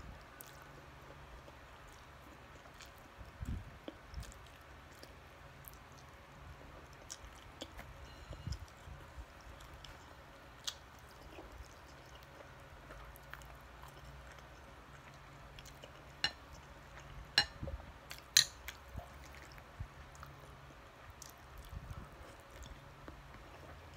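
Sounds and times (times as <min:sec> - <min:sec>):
close-up chewing: 0:00.1 - 0:23.9.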